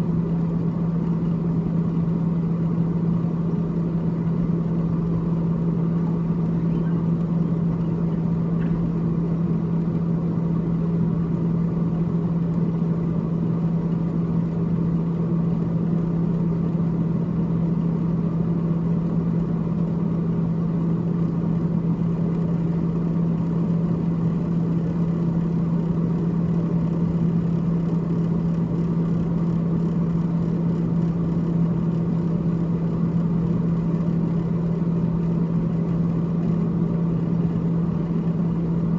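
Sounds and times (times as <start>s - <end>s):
freezer fan humming and whirring: 0.0s - 38.9s.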